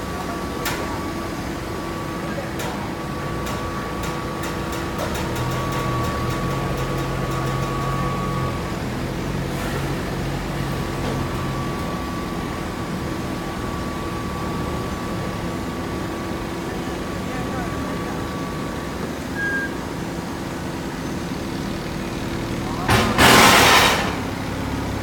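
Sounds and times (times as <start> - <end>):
deeper machine tone: 0.1 - 25.0.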